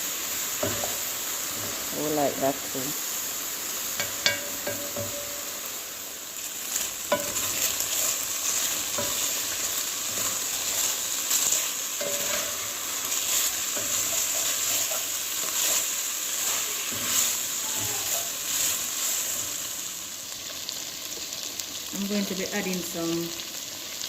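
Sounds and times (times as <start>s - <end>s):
beef sizzling in a pot: 0.0s - 24.0s.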